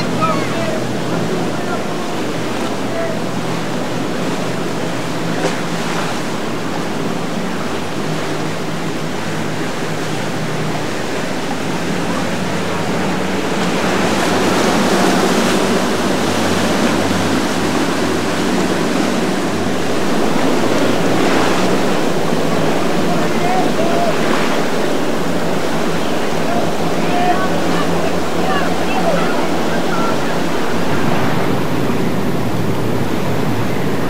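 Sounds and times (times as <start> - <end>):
boat engines humming: 0.0 - 34.0
ocean waves and rushing water: 0.0 - 34.0
wind on microphone: 0.0 - 34.0.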